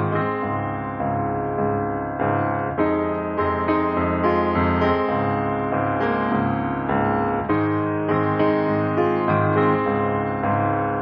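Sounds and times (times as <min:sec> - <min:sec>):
calm piano melody: 0:00.0 - 0:11.0.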